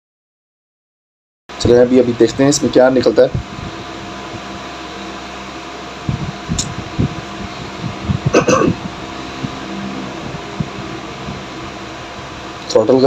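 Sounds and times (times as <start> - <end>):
steady background hum: 1.5 - 13.0.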